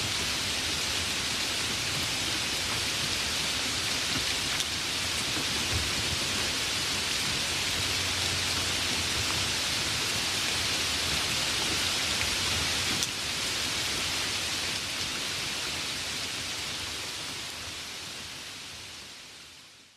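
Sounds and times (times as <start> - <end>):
heavy rain falling: 0.0 - 19.6.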